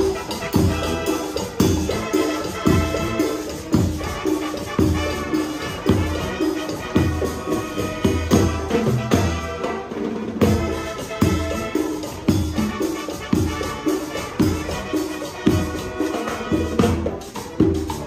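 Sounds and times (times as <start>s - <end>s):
latin dance band playing: 0.0s - 18.0s.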